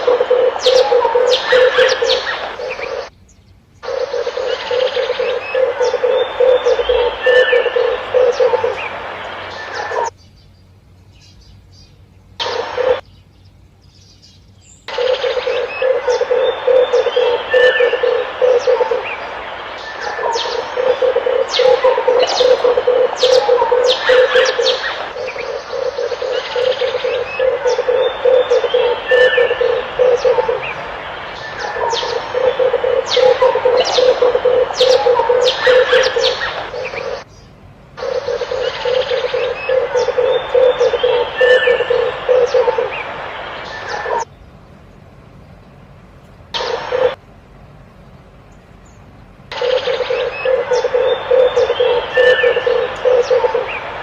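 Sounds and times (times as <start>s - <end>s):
doves cooing: 0.0s - 3.1s, 3.8s - 10.1s, 12.4s - 13.0s, 14.9s - 37.3s, 38.0s - 44.3s, 46.6s - 47.2s, 49.5s - 54.0s.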